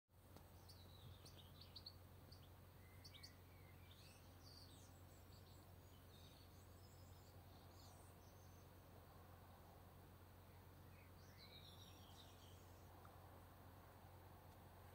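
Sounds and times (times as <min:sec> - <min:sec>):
low steady hum: 0:00.2 - 0:14.9
small birds chirping: 0:00.2 - 0:14.9.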